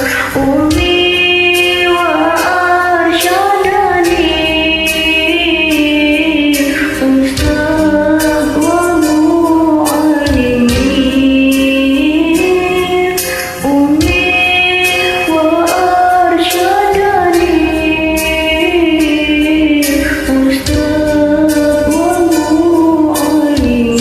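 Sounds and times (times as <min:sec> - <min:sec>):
music backing track: 0:00.0 - 0:24.0
person singing karaoke: 0:00.0 - 0:24.0.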